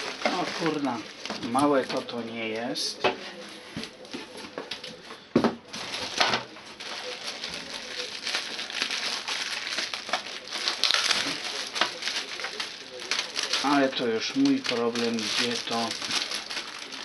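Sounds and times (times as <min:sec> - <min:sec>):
plastic bag crinkling: 0:00.0 - 0:02.7, 0:05.7 - 0:17.0.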